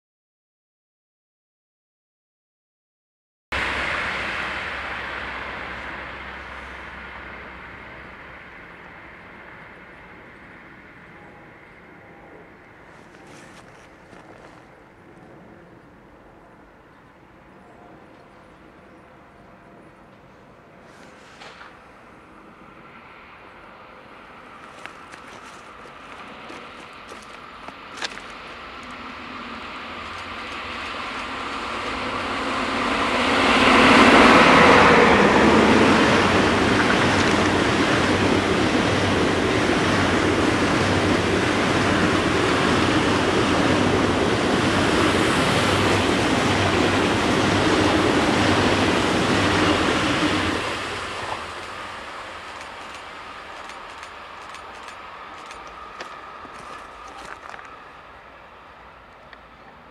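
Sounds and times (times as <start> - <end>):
high-speed train passing: 3.5 - 59.9.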